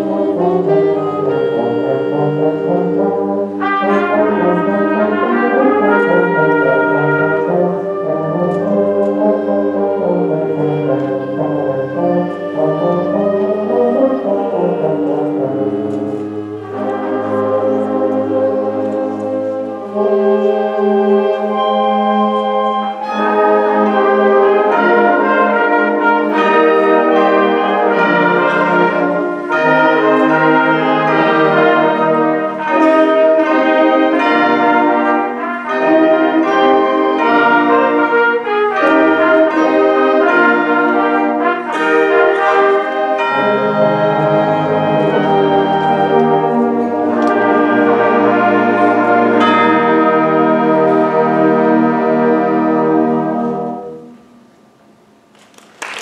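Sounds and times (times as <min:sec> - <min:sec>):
concert band playing: 0:00.0 - 0:54.2.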